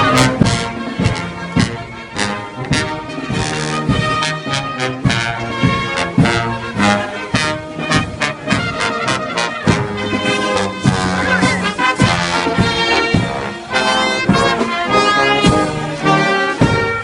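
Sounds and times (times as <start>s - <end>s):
drum hits: 0.0s - 15.8s
trombones and trumpets playing: 0.0s - 17.0s.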